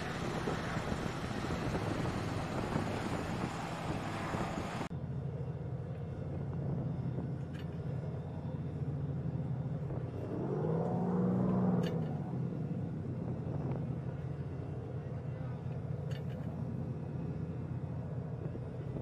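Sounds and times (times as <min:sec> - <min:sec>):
motorboat engine humming: 0:00.0 - 0:19.0.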